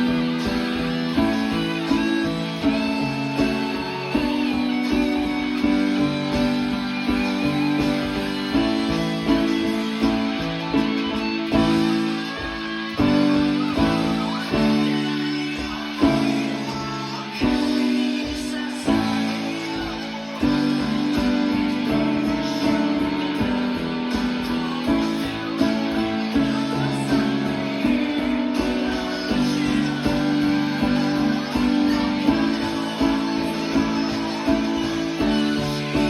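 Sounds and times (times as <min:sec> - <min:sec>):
band music with guitar: 0:00.0 - 0:36.0
keyboard chords: 0:00.0 - 0:36.0.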